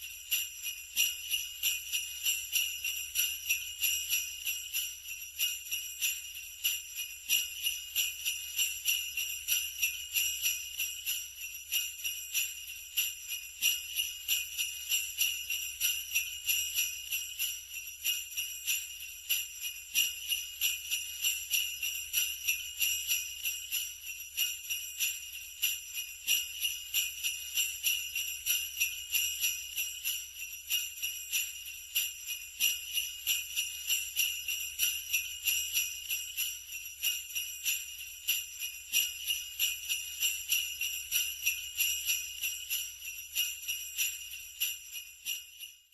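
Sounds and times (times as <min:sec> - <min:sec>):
sleigh bells jingling: 0:00.0 - 0:45.9.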